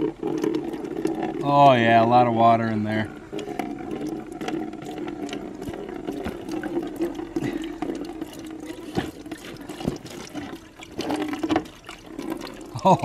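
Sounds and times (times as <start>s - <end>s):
liquid splashing into plastic bucket: 0.0s - 2.2s, 3.0s - 13.0s.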